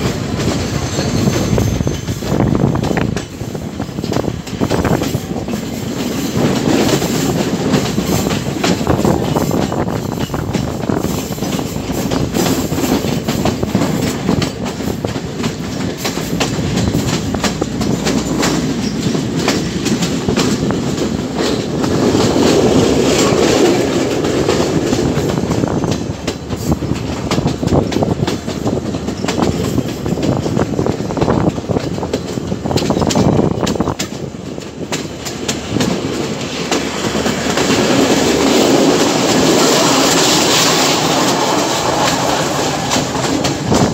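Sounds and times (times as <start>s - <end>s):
clatter over rail joints: 0.0s - 43.9s
train wheels rumbling on rails: 0.0s - 43.9s.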